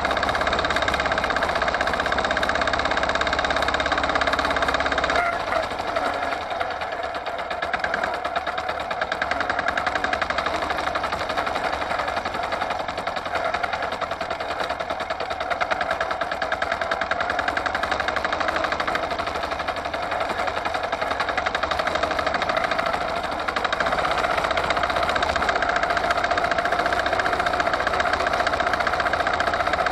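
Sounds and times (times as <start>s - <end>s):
walk-behind tractor engine running: 0.0s - 29.9s.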